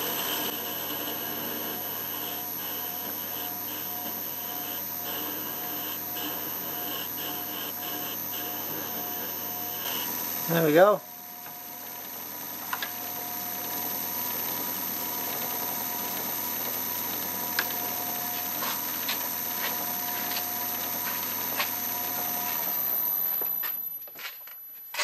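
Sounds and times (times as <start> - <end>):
metal lathe motor humming: 0.0 - 24.0.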